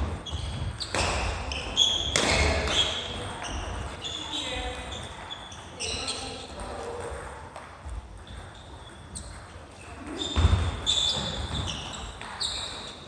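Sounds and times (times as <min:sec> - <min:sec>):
shoes squeaking on wooden floor: 0:00.0 - 0:07.0, 0:07.8 - 0:13.0.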